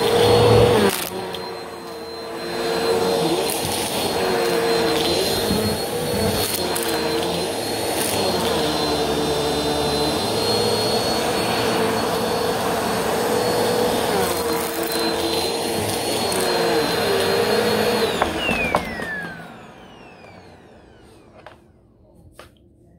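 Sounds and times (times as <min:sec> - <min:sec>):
vacuum cleaner motor whine: 0:00.0 - 0:22.2.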